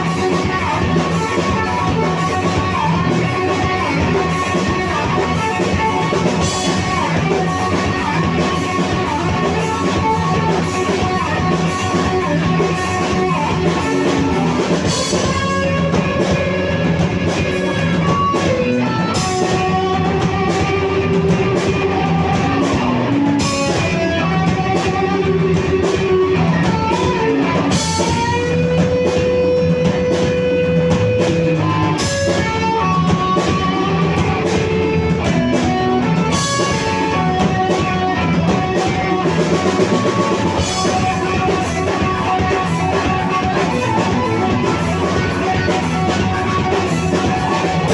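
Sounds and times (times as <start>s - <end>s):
bass guitar: 0.0s - 47.9s
drum kit: 0.0s - 47.9s
electric guitar lead: 0.0s - 47.9s.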